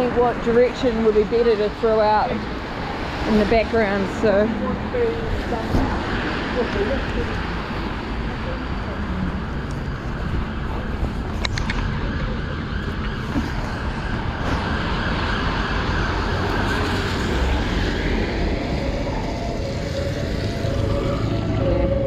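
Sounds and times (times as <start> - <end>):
cars passing on wet road: 0.0 - 22.0.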